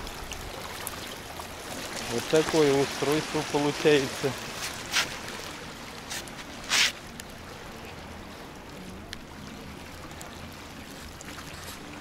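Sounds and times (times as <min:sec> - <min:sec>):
loud rush of water: 0:00.0 - 0:12.0
sea water lapping against rocks: 0:00.0 - 0:12.0.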